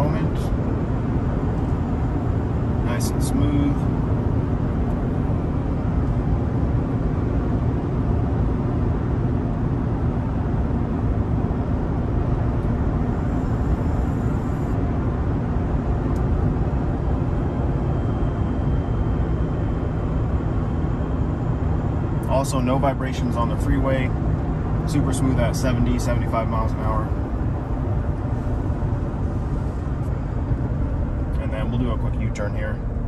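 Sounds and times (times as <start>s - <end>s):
in-cab engine drone: 0.0s - 33.0s.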